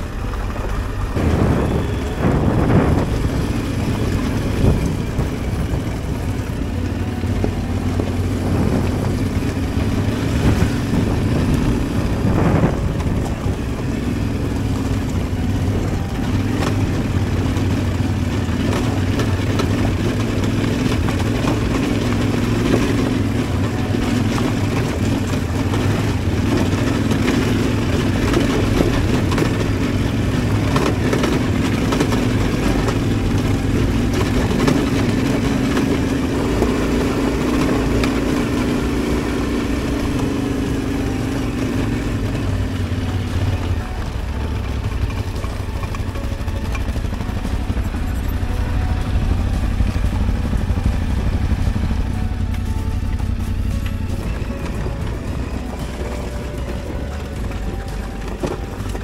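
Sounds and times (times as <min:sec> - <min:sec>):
wind rushing over microphone: 0:00.0 - 0:56.0
motorcycle engine running: 0:00.0 - 0:59.0.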